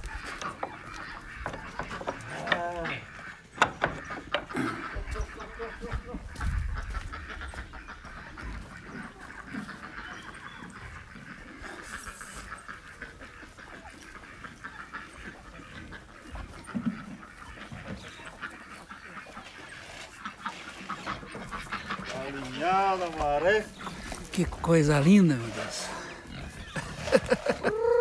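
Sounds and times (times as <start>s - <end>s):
chickens clucking: 0.0s - 28.0s
ducks quacking: 0.0s - 28.0s.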